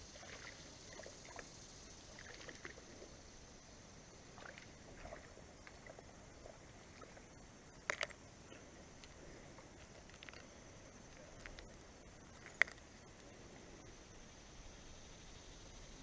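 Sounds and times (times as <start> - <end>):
moving water: 0.0 - 16.0
small ticks and splashes: 0.0 - 16.0.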